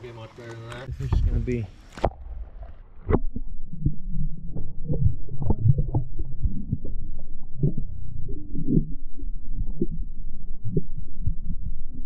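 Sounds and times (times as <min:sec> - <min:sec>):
underwater rumble of moving water: 0:00.0 - 0:12.0
dull knocks and clicks underwater: 0:00.4 - 0:12.0.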